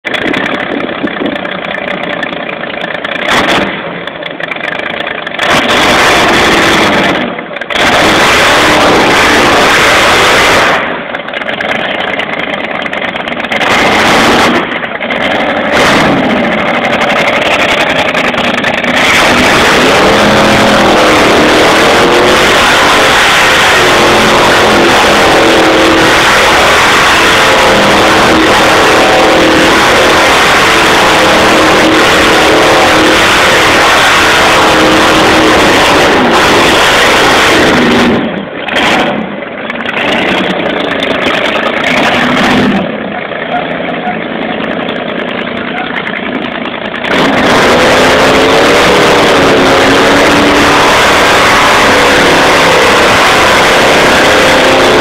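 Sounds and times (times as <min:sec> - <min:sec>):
car engine revving hard: 0:03.1 - 0:04.0, 0:05.3 - 0:55.0.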